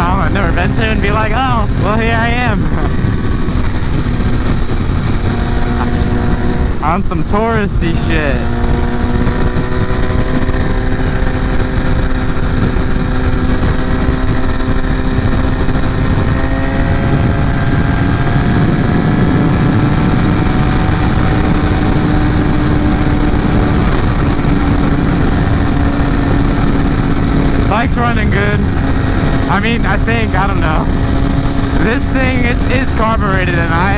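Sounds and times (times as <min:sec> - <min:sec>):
motorcycle engine cruising: 0:00.0 - 0:33.9
wind rush on microphone: 0:00.0 - 0:33.9.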